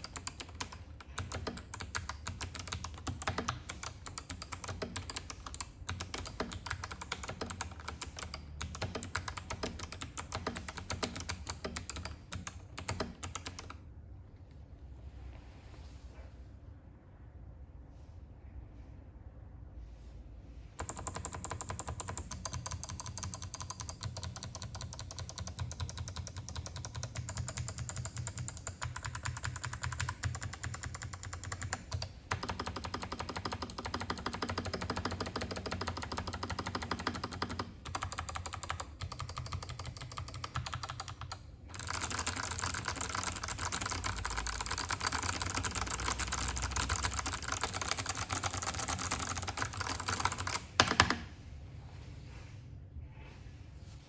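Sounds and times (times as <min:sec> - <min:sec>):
mechanical keyboard clicks: 0:00.0 - 0:13.8, 0:20.8 - 0:51.2.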